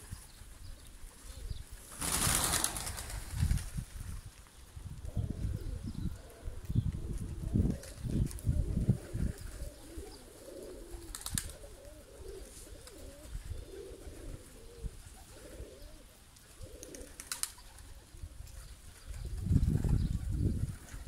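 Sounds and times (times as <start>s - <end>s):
pigeons cooing: 0.0s - 3.1s, 5.0s - 21.0s.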